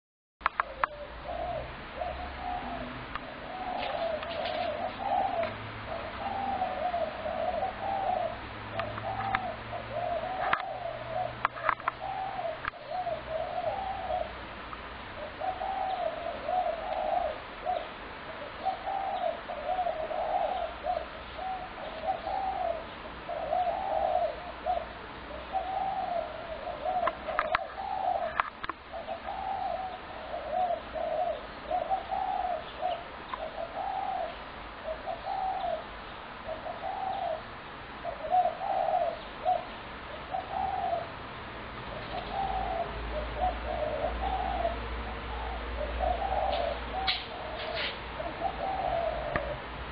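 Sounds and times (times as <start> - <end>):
doves cooing: 0.4 - 49.9.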